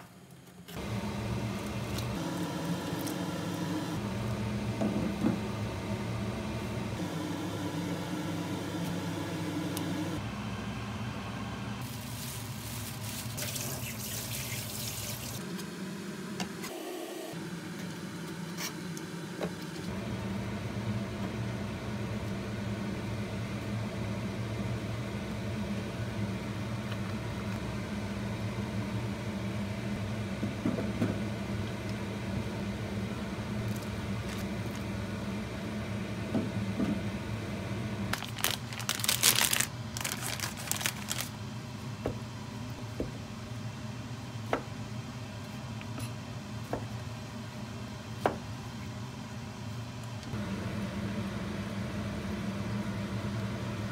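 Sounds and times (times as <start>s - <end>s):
kitchen appliance humming: 0.5s - 53.9s.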